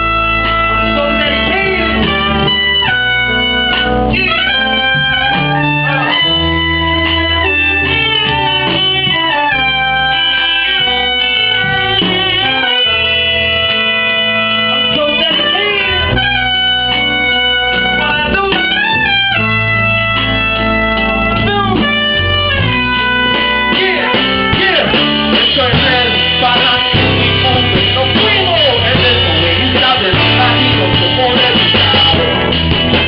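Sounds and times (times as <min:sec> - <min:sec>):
salsa band with brass and violin: 0:00.0 - 0:33.0.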